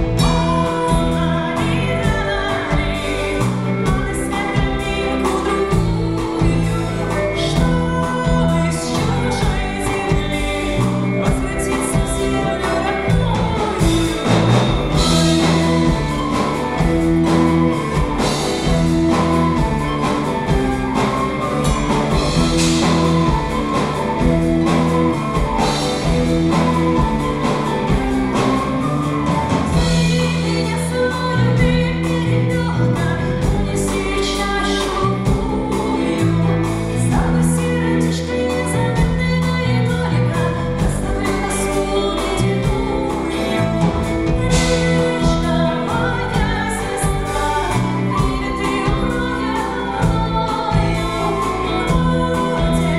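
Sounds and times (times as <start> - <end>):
drums: 0.0 - 52.9
guitar: 0.0 - 52.9
woman singing lead vocal: 0.0 - 52.9.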